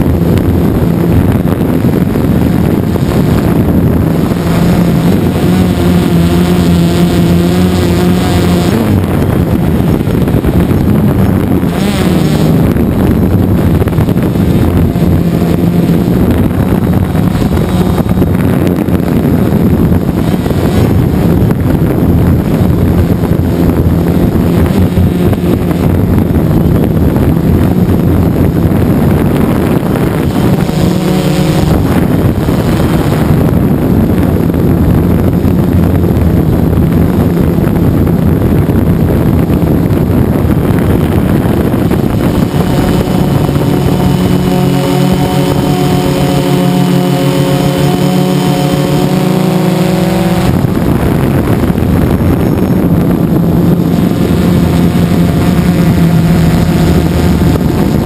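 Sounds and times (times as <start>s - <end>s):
drone propellers buzzing: 0.0s - 58.0s
rush of air: 0.0s - 58.0s.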